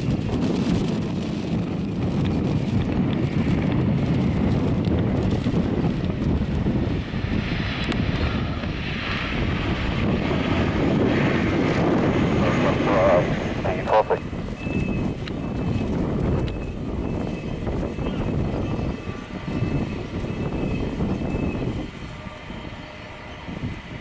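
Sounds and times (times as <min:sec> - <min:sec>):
jet engines rumbling: 0:00.0 - 0:24.0
wind on microphone: 0:00.0 - 0:24.0.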